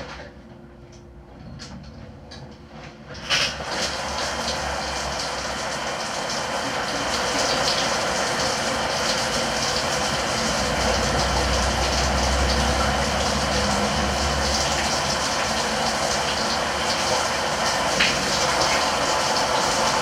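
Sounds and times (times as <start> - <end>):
shower water spray hissing: 3.4 - 20.0.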